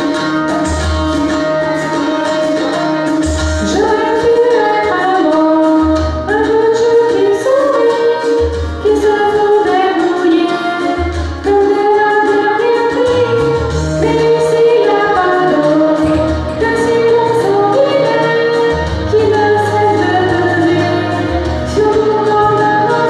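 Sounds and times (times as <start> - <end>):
backing track: 0.0 - 23.0
woman singing into a microphone: 0.0 - 23.0.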